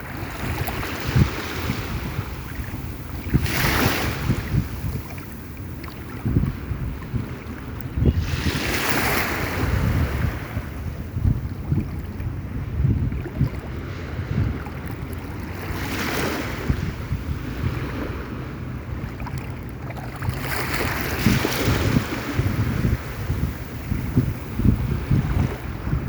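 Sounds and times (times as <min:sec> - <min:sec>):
sea waves washing in: 0:00.0 - 0:26.0
wind buffeting microphone: 0:00.0 - 0:26.0.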